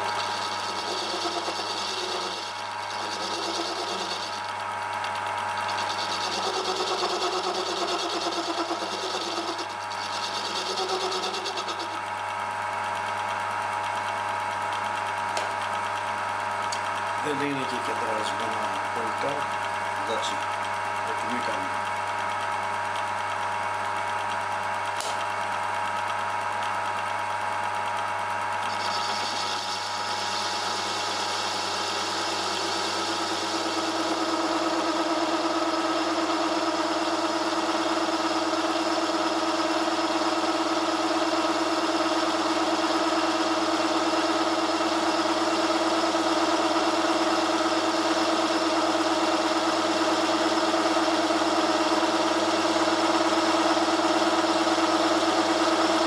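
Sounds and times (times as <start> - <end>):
metal lathe cutting metal: 0.0 - 56.0.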